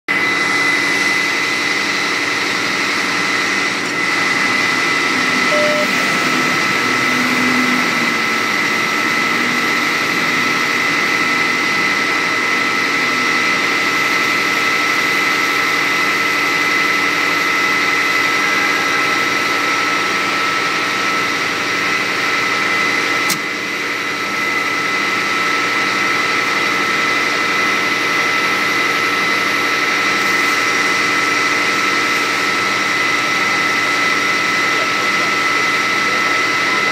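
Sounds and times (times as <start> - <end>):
fire engine pump droning: 0.1 - 36.9.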